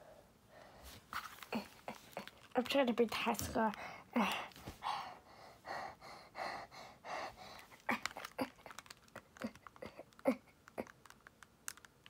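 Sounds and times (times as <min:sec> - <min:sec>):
soft breaths: 0:00.0 - 0:11.2.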